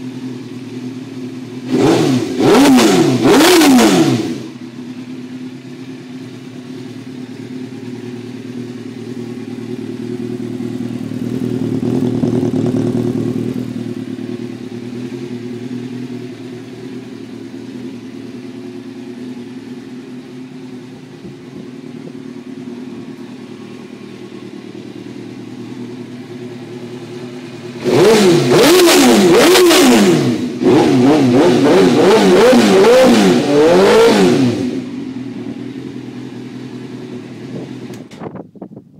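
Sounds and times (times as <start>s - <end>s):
motorcycle engine revving: 0.0s - 38.4s
motorcycle engine idling: 0.0s - 38.9s.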